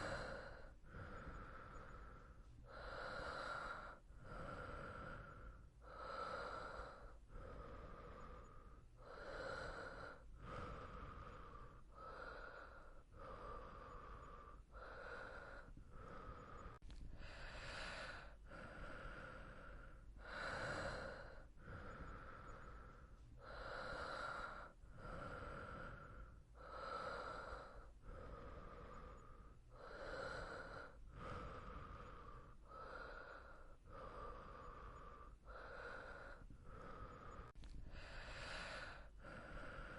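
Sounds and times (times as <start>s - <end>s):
person breathing softly: 0.0s - 39.9s.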